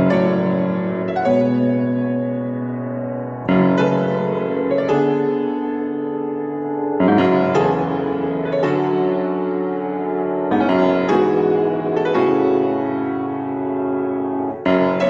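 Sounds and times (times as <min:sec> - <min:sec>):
slow solo piano chords: 0:00.0 - 0:15.0.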